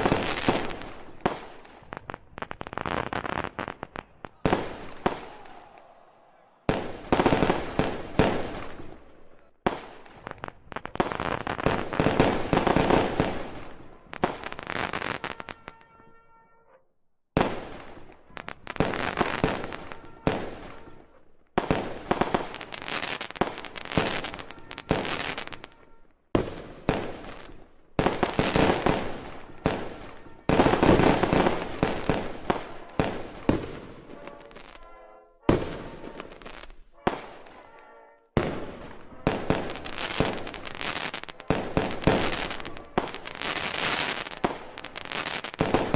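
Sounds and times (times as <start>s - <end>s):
fireworks bangs and crackling: 0.0s - 5.9s, 6.6s - 15.8s, 17.4s - 37.8s, 38.4s - 45.9s.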